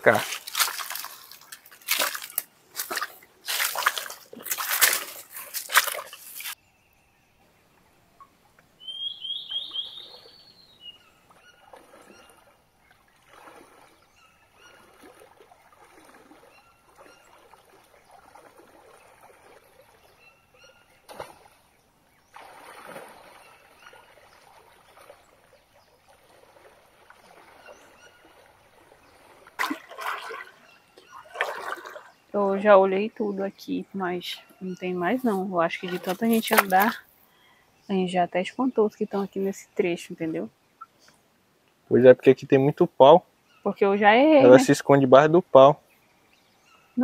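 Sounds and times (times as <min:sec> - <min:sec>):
creek water splashing: 0:00.0 - 0:06.6, 0:07.6 - 0:47.0.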